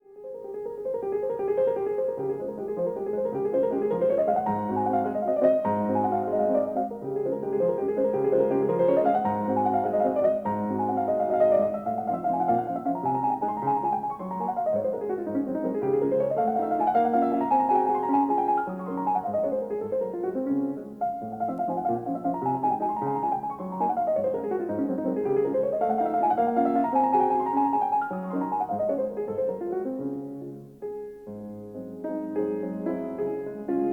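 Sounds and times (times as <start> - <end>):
solo piano arpeggios: 0.0 - 33.9.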